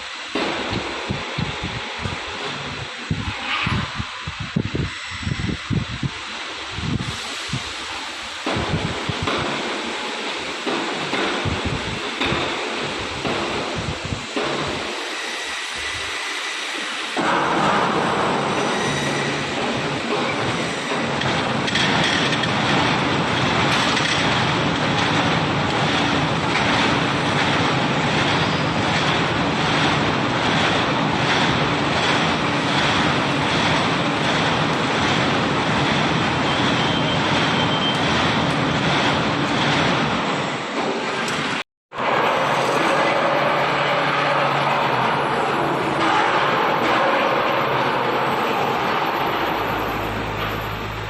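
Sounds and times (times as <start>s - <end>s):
industrial machinery noise: 0.0s - 51.0s.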